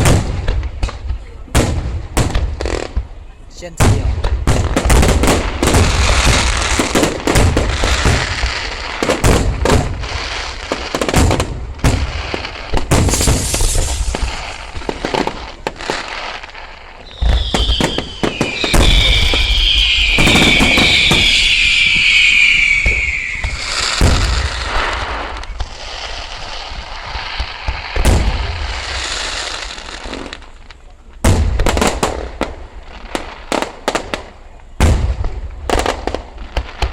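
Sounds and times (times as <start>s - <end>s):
fireworks bangs: 0.0s - 36.9s
whistling fireworks: 0.0s - 36.9s.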